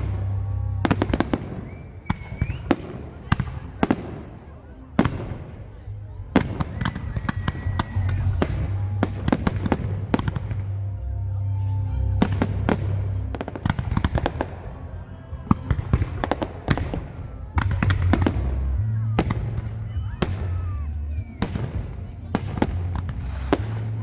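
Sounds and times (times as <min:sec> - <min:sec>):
fireworks bangs and crackling: 0:00.0 - 0:11.1, 0:12.0 - 0:24.0
background music: 0:00.0 - 0:24.0.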